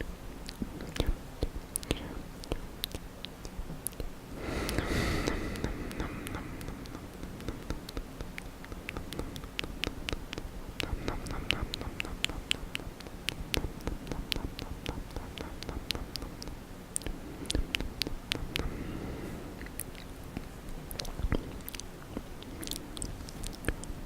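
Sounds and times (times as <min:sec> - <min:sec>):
wet mouth smacks and clicks: 0:00.4 - 0:04.1, 0:04.7 - 0:18.7, 0:19.6 - 0:24.0.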